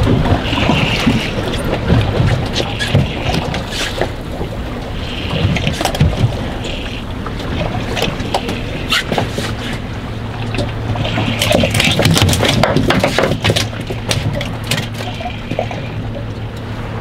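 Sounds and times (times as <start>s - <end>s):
steady low hum: 0.0s - 17.0s
water slapping against boat hull: 0.0s - 17.0s.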